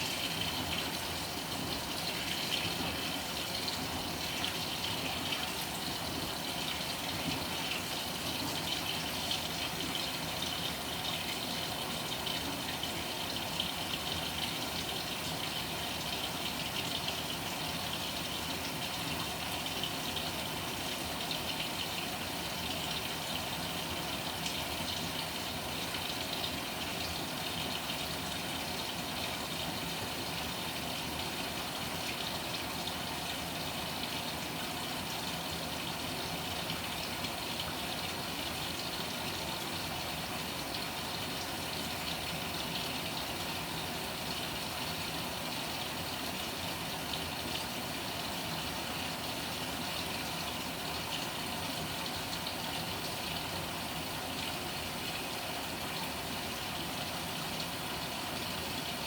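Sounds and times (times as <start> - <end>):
low mechanical hum: 0.0 - 59.0
washing machine water churning: 0.0 - 59.0.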